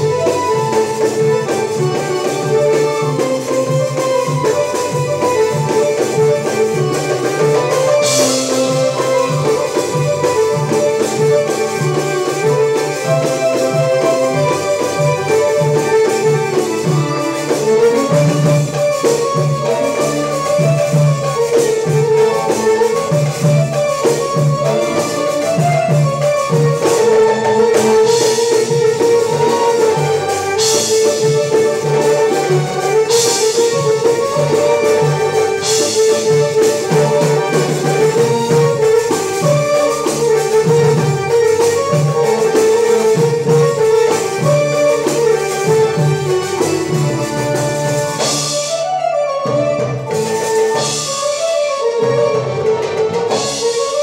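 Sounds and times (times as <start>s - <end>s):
goblet drum rhythm: 0.0s - 54.0s
keyboard melody: 0.0s - 54.0s.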